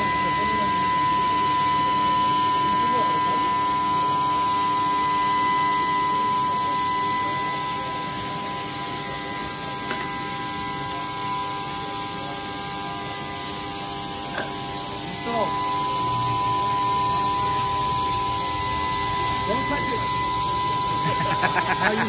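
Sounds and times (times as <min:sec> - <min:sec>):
machinery hum with high whine: 0:00.0 - 0:22.0.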